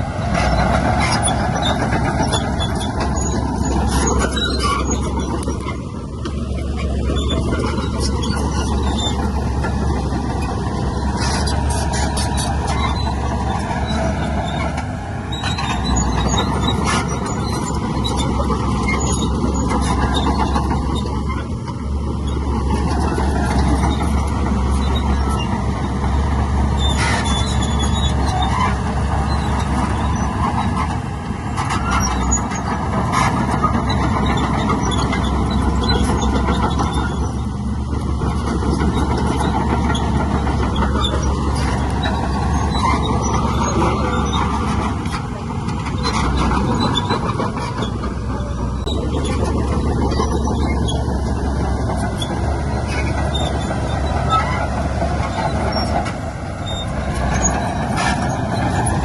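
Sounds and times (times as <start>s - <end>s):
diesel engine rumbling: 0.0s - 59.0s
metallic squeals and clanks: 0.0s - 59.0s.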